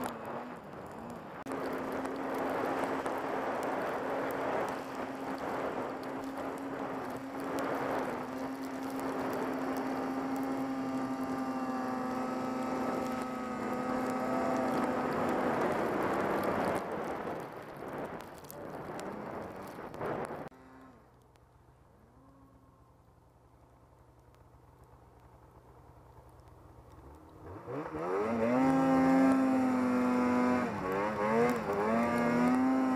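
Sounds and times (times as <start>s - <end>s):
snowmobile engine running: 0.0s - 21.2s, 24.5s - 32.9s
rushing hiss of snow and wind: 0.0s - 21.8s, 23.5s - 32.9s.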